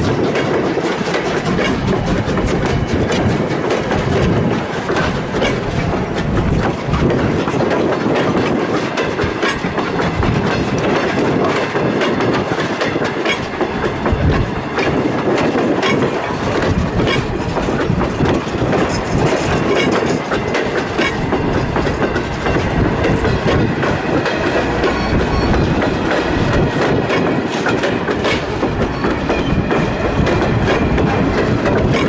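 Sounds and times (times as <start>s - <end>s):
train wheels clickety-clack: 0.0s - 32.0s.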